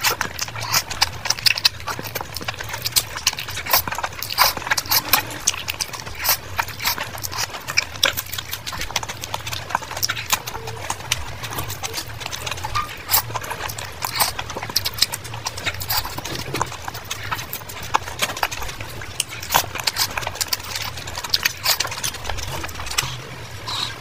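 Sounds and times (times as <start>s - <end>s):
chewing and lip-smacking: 0.0s - 24.0s.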